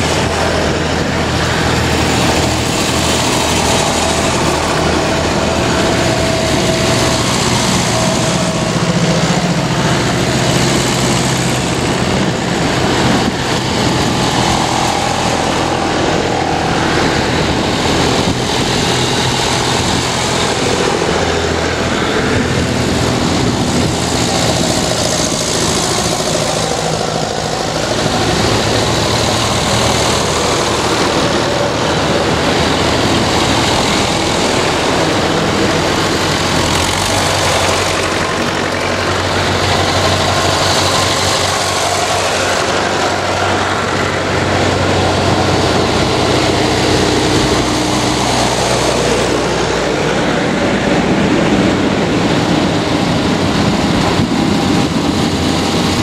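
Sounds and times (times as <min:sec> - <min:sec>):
vintage tractor engines passing: 0:00.0 - 0:56.0.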